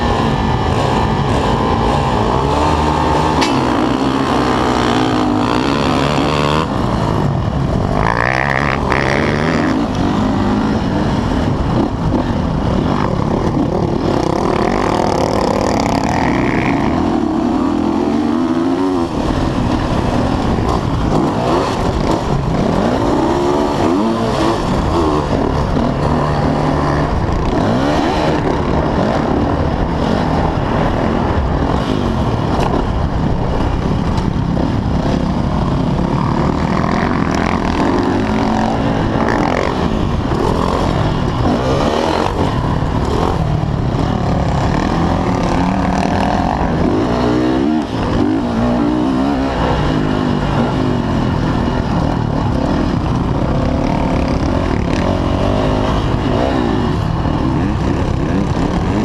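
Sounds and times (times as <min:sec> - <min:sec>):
dirt bike engine revving: 0:00.0 - 0:59.0
other motocross bikes running: 0:00.0 - 0:59.0.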